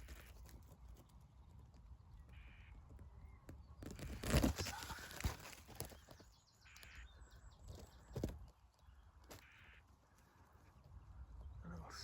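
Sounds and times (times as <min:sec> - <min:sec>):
harsh bird calls: 0:02.2 - 0:12.0.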